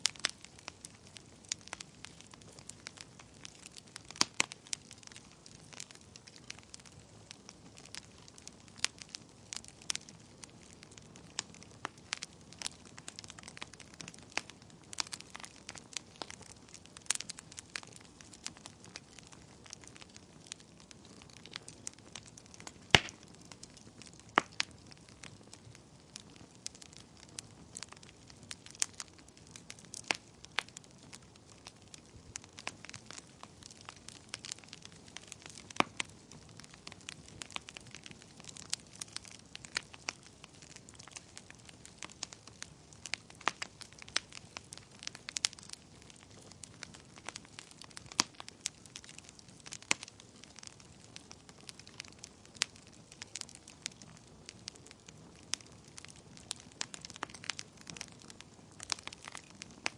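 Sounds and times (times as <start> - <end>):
soft steady fire hiss: 0.0 - 59.9
wood fire crackling and popping: 0.0 - 59.9.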